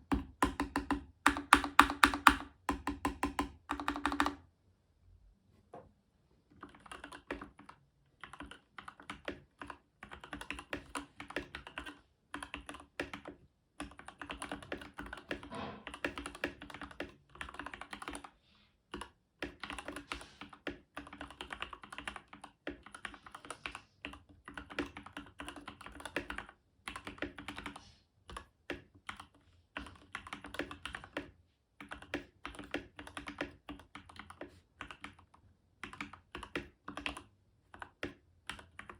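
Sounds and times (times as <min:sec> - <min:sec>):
mechanical keyboard typing: 0:00.0 - 0:04.4, 0:06.6 - 0:18.3, 0:18.9 - 0:38.9.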